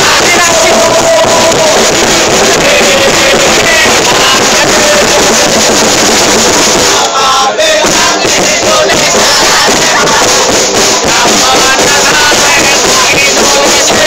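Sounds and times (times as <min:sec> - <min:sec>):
crowd singing and chanting: 0:00.0 - 0:14.0.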